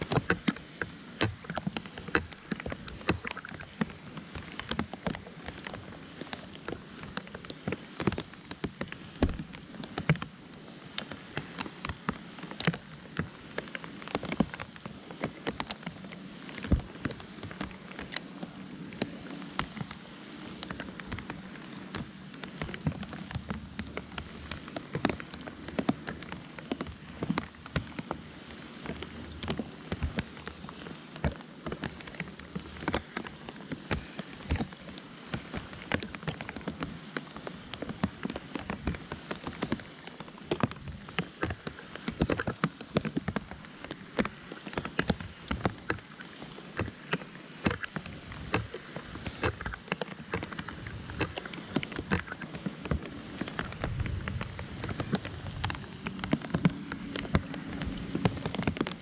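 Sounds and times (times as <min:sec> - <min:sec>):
rain hiss: 0:00.0 - 0:59.0
raindrops tapping close surface: 0:00.0 - 0:59.0.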